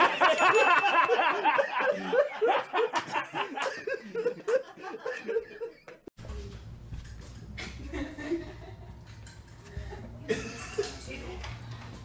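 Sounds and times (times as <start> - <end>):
people laughing: 0.0 - 6.1, 7.6 - 11.7.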